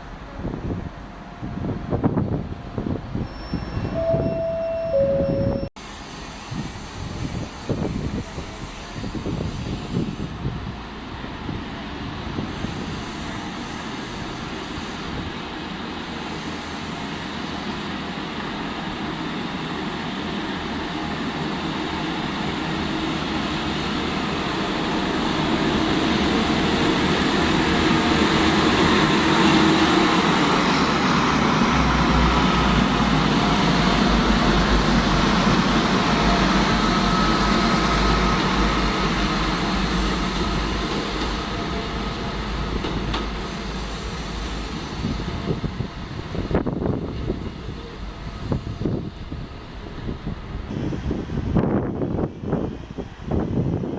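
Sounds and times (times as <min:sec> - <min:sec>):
train passing through station: 0:00.0 - 0:53.9.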